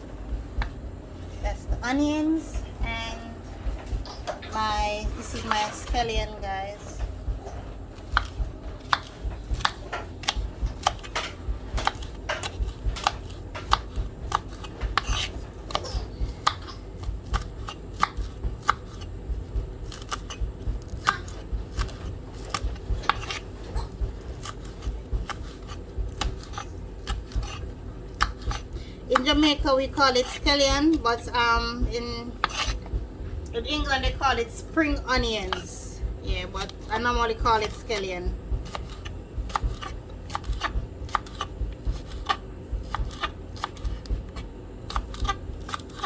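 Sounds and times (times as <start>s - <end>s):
knife chopping scallions: 8.0s - 32.9s, 33.6s - 46.0s.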